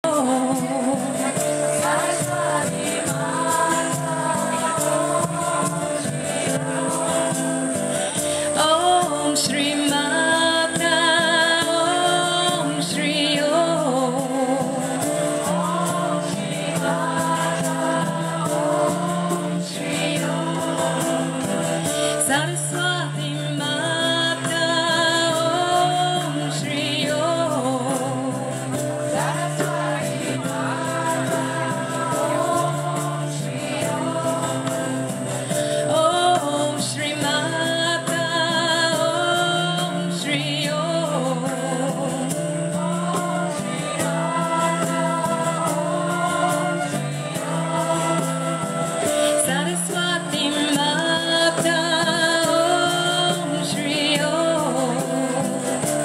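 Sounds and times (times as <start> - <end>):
acoustic guitar: 0.0 - 56.0
voices singing together: 0.0 - 56.0
woman singing: 0.0 - 56.0.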